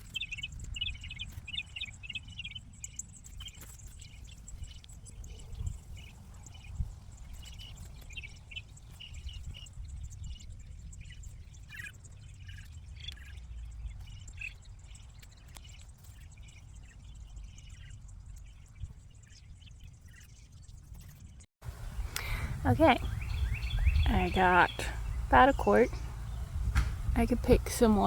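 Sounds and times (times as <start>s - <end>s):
wind rumble on microphone: 0.0s - 19.8s, 21.0s - 28.0s
bird chirps: 0.0s - 28.0s.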